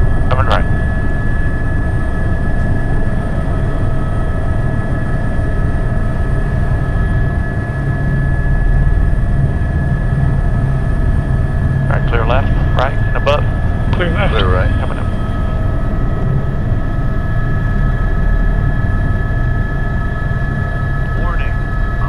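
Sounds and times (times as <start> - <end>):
helicopter hovering: 0.0 - 22.0.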